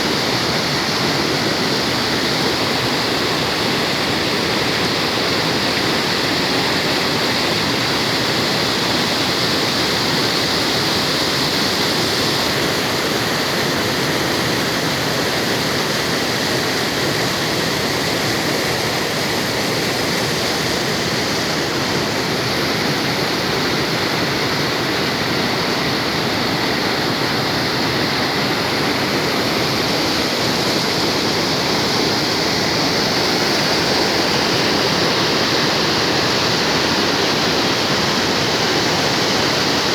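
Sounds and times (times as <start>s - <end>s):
spring water rushing: 0.0s - 39.9s.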